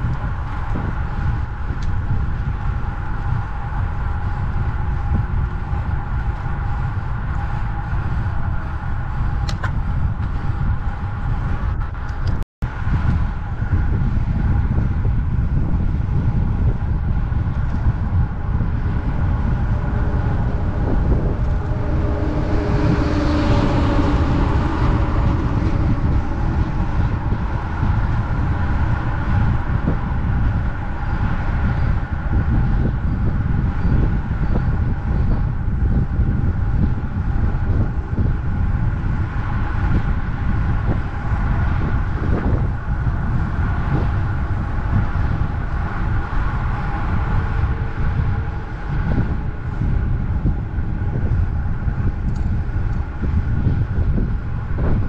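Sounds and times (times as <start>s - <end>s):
tyre and road noise: 0.0s - 55.0s
wind buffeting microphone: 0.0s - 55.0s.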